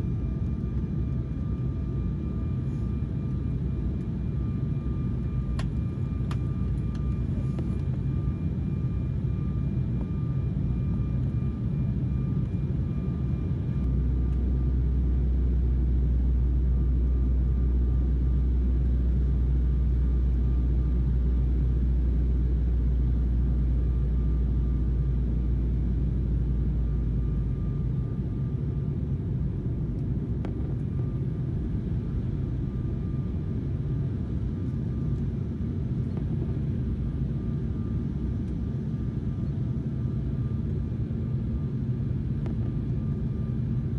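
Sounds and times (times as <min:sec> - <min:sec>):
airliner engines rumbling in cabin: 0:00.0 - 0:43.9
faint steady whine: 0:00.0 - 0:43.9.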